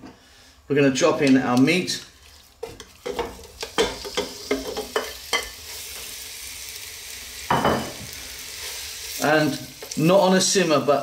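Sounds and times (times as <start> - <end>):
meat sizzling in hot oil: 2.1 - 11.0.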